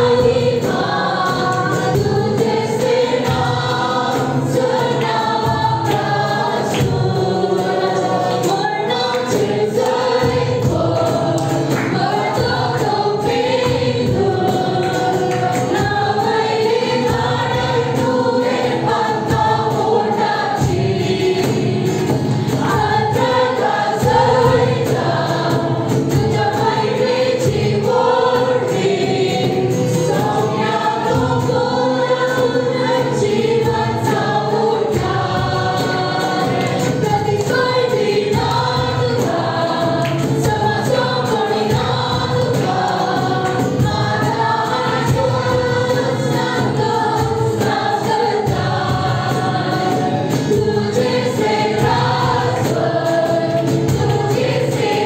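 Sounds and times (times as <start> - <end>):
group singing worship song: 0.0 - 55.0
sustained musical backing: 0.0 - 55.0.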